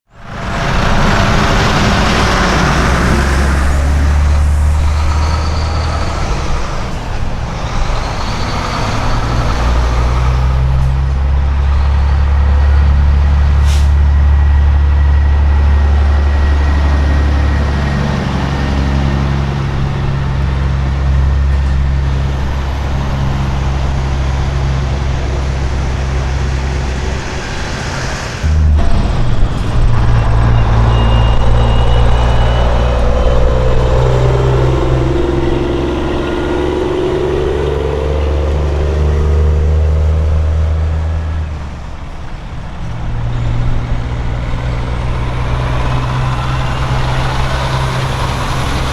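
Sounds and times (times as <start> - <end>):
diesel truck engines droning: 0.1 - 48.9.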